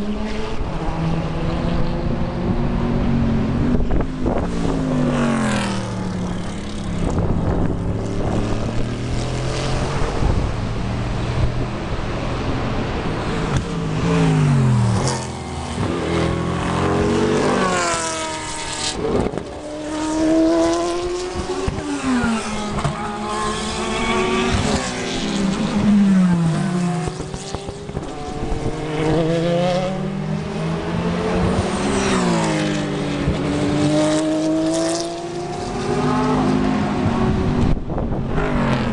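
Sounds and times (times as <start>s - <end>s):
race cars downshifting and accelerating: 0.0s - 38.9s.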